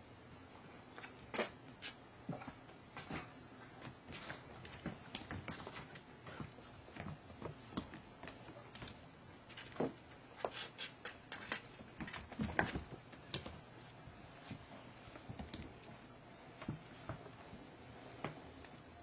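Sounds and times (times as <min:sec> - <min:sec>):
kitten paws tapping and scrabbling: 0:01.0 - 0:18.8.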